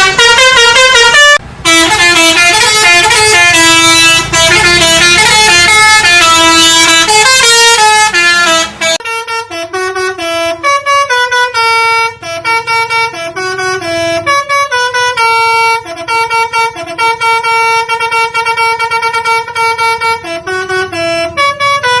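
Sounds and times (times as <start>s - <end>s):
musical horn playing tune: 0.0s - 22.0s.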